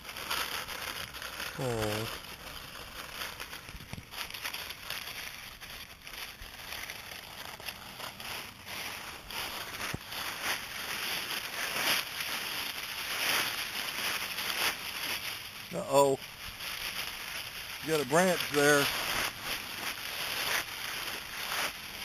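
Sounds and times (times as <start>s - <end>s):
dry leaves crunching: 0.0s - 22.0s.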